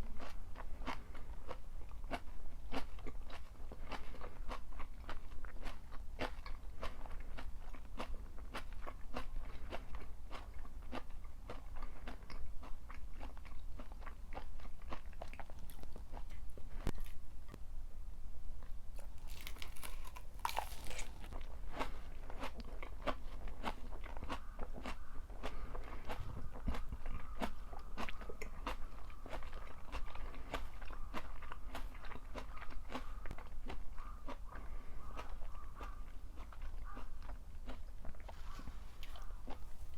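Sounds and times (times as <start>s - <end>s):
crunchy chewing: 0.0s - 17.6s, 18.6s - 39.9s.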